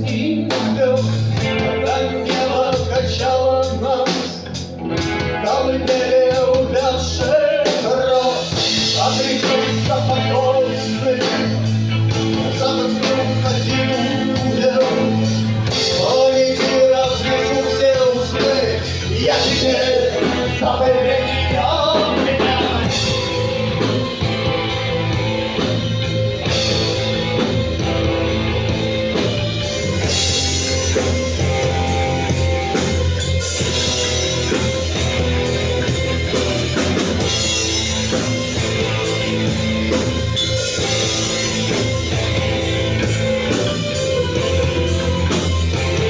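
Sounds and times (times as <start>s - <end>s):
drums: 0.0s - 46.0s
electric guitars: 0.0s - 46.0s
live rock band playing: 0.0s - 46.0s
steady bass: 0.0s - 46.0s.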